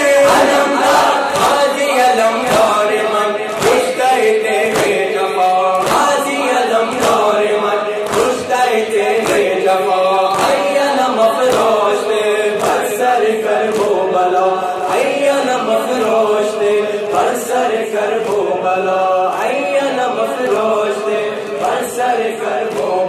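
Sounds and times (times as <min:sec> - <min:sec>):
crowd of men singing along: 0:00.0 - 0:23.0
men chanting into microphones: 0:00.0 - 0:23.0
hands slapping chests in unison: 0:00.2 - 0:23.0.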